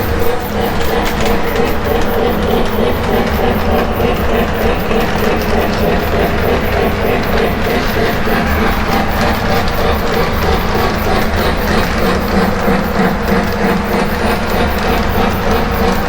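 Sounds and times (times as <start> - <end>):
model train running: 0.0 - 16.0.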